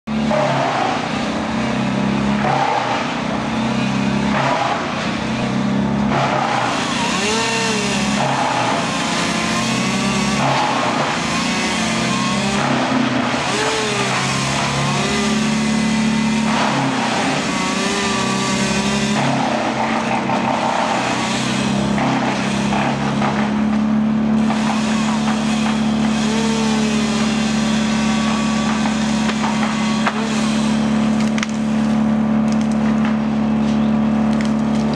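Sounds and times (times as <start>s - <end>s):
chainsaw revving: 0.2s - 32.8s.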